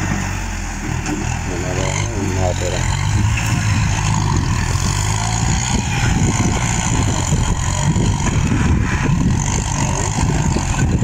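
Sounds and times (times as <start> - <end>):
tractor engine rumbling: 0.0 - 11.0.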